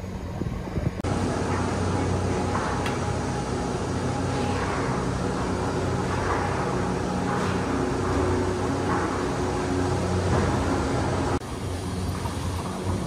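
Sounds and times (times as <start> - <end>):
gondola lift machinery drone: 0.0 - 13.0.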